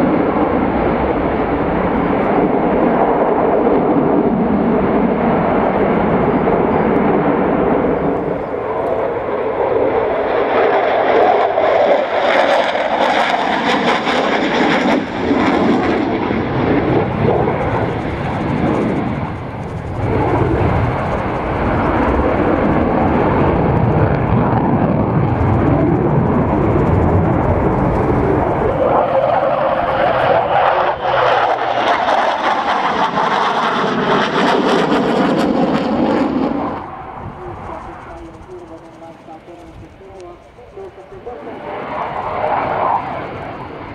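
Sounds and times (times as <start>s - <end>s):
fighter jet roar: 0.0s - 43.9s.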